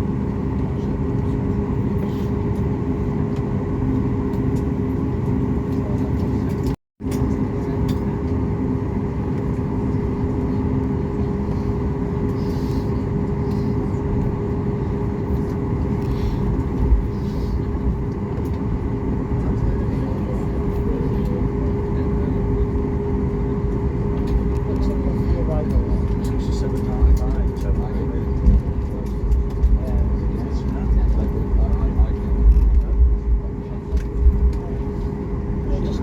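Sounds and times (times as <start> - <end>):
airliner cabin hum: 0.0 - 36.0.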